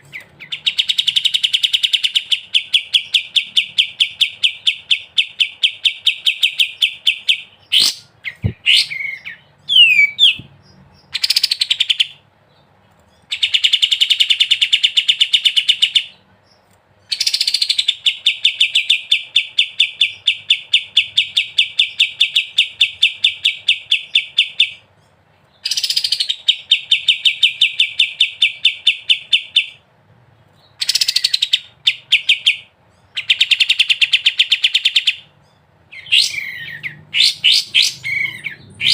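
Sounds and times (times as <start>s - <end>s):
songbird rapid rattling song: 0.0s - 38.9s.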